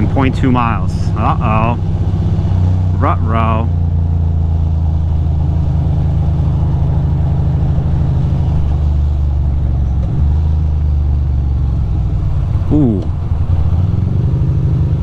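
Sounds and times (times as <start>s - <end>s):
motorcycle engine cruising: 0.0s - 15.0s
road and wind noise: 0.0s - 15.0s.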